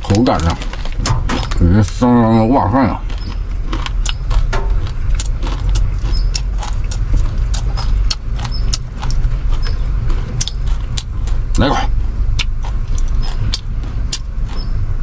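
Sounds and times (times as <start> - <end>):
dry noodles crunched and chewed: 0.0 - 2.1, 3.0 - 14.7
low rumble inside car: 0.0 - 15.0.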